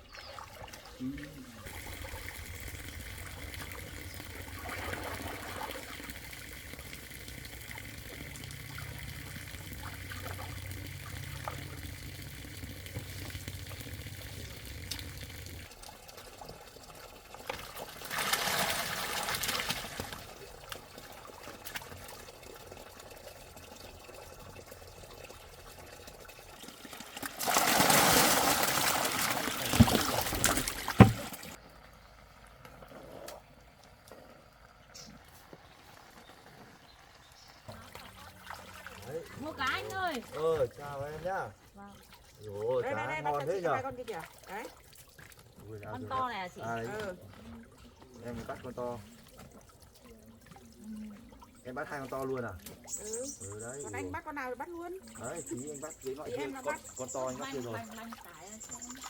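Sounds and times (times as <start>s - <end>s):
water splashing and pouring: 0.0s - 31.6s, 35.0s - 53.0s.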